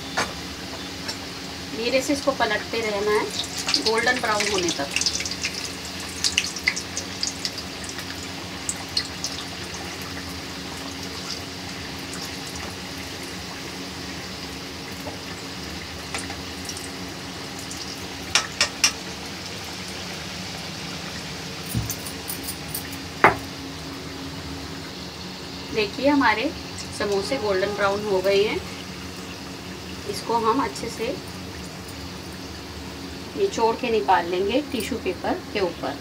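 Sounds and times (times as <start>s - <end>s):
deep-frying sizzle: 0.0s - 35.9s.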